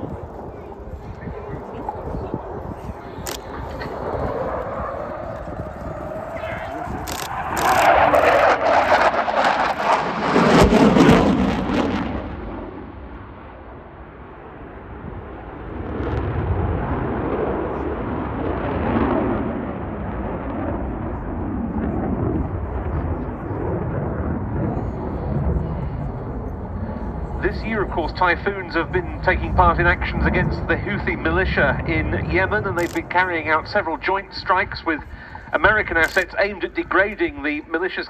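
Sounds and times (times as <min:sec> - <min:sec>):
loud crackling jet noise: 0:00.0 - 0:38.0.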